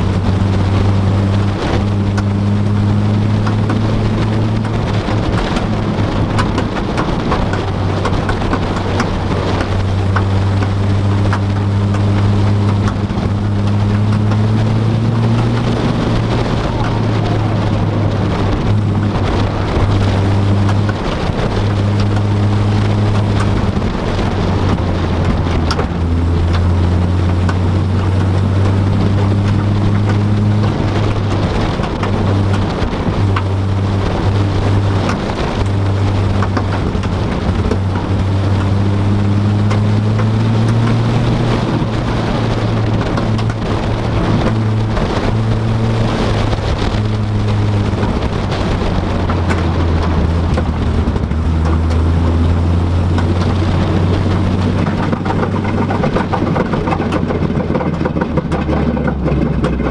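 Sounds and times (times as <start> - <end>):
car engine and road noise: 0.0 - 59.9
sharp cracks and pops: 0.0 - 59.9.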